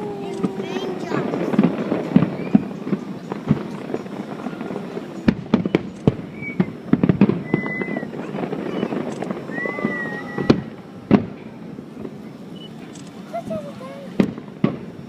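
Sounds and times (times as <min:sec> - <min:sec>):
fireworks bangs and crackling pops: 0:00.0 - 0:15.0.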